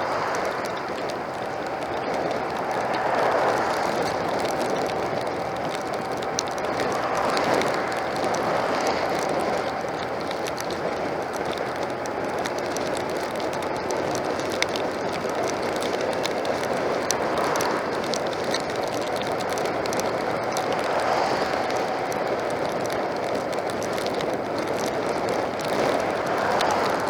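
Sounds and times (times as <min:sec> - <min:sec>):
heavy rain: 0:00.0 - 0:27.0
raindrops ticking on microphone: 0:00.0 - 0:27.0.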